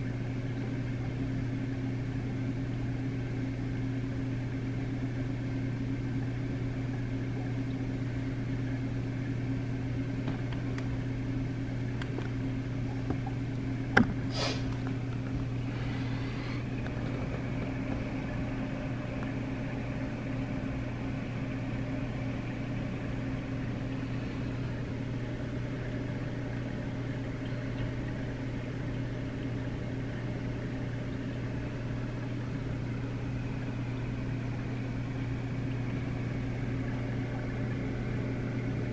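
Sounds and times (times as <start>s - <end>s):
aquarium pumps humming: 0.0s - 38.9s.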